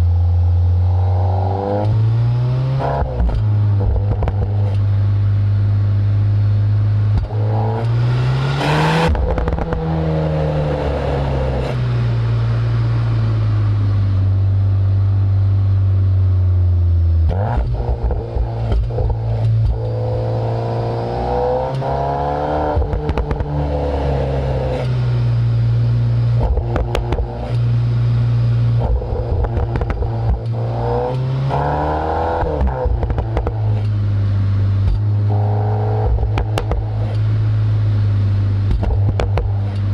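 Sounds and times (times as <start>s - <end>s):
car engine revving: 0.0s - 39.9s
exhaust crackles and pops: 2.8s - 39.9s.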